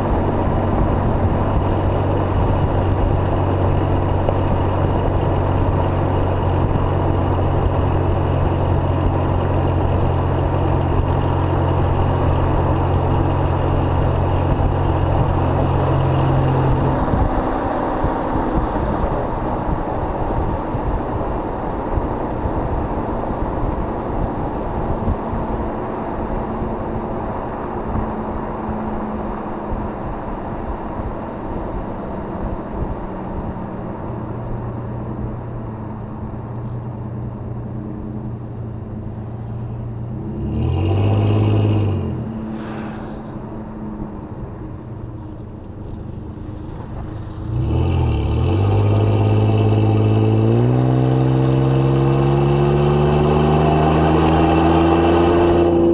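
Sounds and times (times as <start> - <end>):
low exhaust drone: 0.0 - 55.9
road and wind hiss: 0.0 - 55.9.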